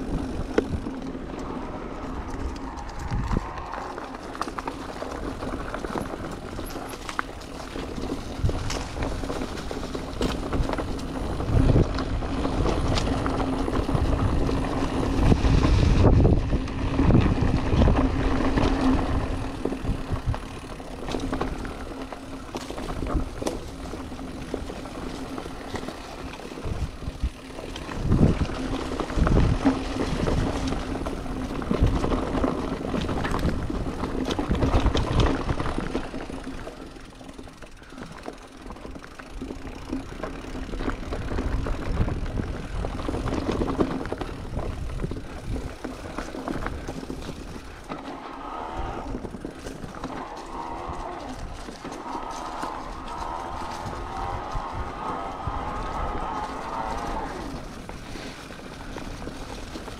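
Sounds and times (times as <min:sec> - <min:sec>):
wind on microphone: 0:00.0 - 0:06.6, 0:07.9 - 0:21.9, 0:22.6 - 0:36.0, 0:40.8 - 0:59.9
bike rattles and thumps: 0:00.0 - 0:59.9.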